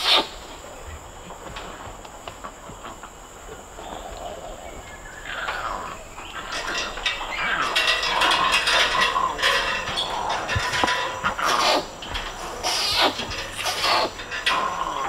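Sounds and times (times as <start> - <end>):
orangutan calling: 0.0 - 1.1, 2.8 - 15.0.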